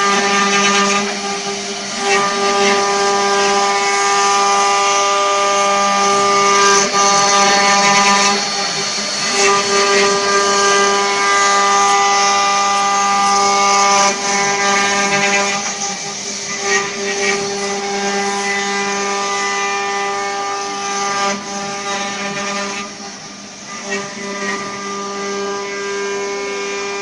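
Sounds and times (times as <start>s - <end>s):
wood router spindle whine: 0.0s - 27.0s.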